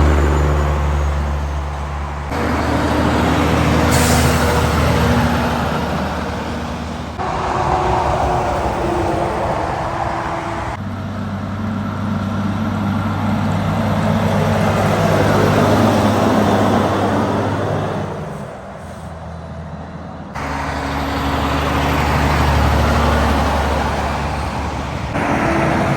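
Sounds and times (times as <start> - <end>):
trucks driving past: 0.0 - 25.9
tyre and road noise: 0.0 - 25.9.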